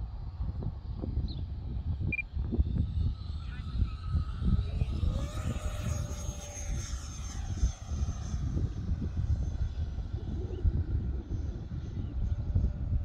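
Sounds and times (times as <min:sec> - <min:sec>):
wind rumble on microphone: 0:00.0 - 0:13.0
model jet fan whining: 0:00.2 - 0:13.0.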